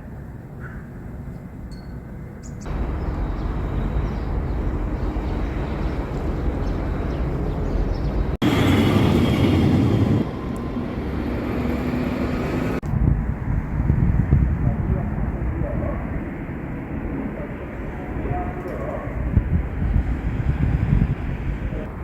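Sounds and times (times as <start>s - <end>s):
vehicle noise rumble: 2.6s - 22.0s.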